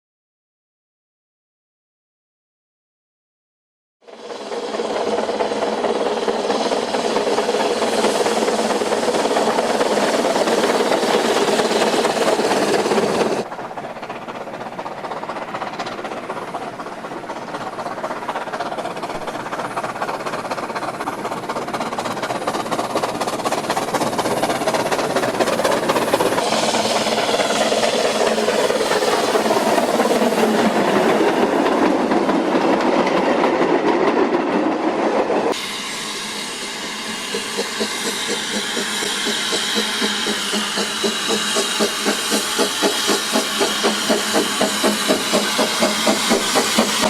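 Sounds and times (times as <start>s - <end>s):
steam locomotive hissing: 4.1s - 47.0s.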